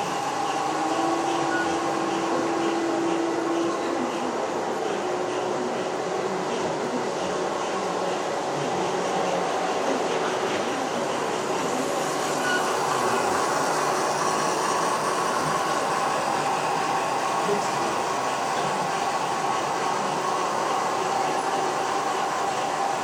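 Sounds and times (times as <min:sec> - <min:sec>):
model train humming: 0:00.0 - 0:23.0.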